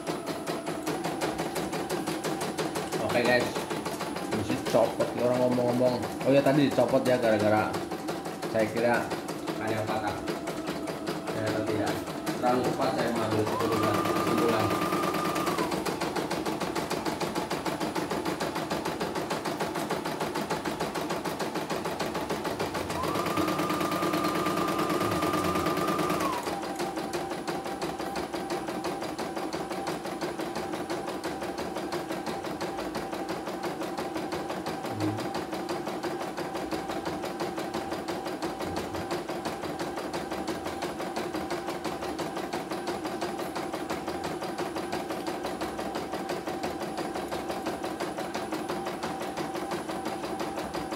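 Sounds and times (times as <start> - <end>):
embroidery machine needle clattering: 0.1 - 50.9.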